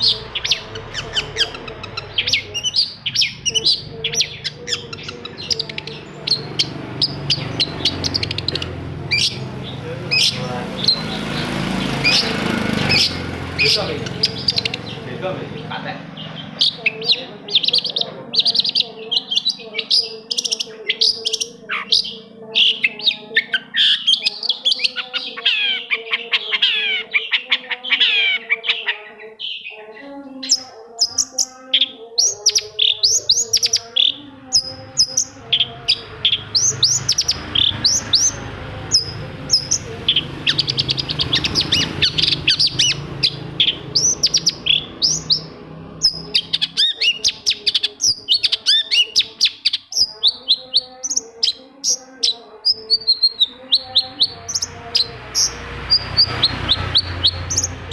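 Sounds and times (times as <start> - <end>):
bird singing sharp chirps: 0.0 - 29.8, 30.4 - 57.9.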